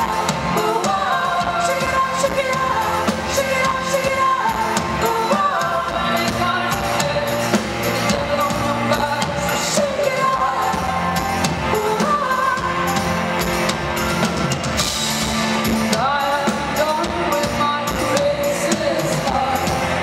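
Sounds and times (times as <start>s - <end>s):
live band playing loudly: 0.0s - 20.0s
woman singing lead: 0.0s - 20.0s.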